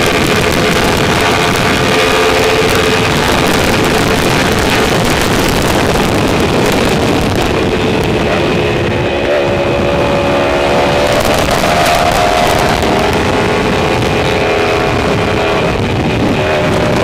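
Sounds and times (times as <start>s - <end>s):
motorcycle engine at high revs: 0.0s - 17.0s
wind rush: 0.0s - 17.0s.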